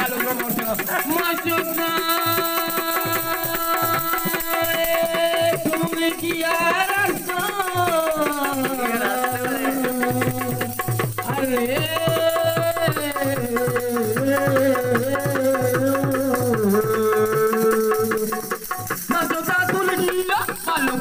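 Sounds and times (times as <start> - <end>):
man singing folk song: 0.0 - 21.0.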